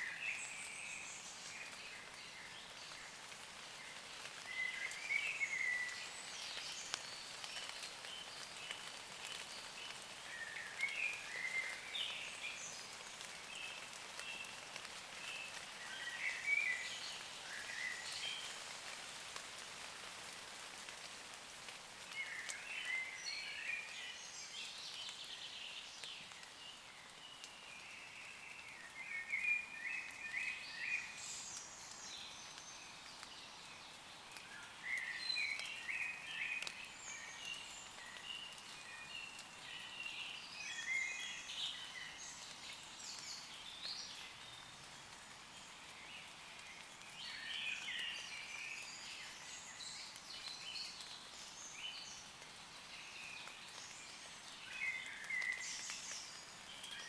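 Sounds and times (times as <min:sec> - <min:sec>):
rain falling on leaves: 0:00.0 - 0:57.0
songbirds chirping: 0:00.0 - 0:57.0.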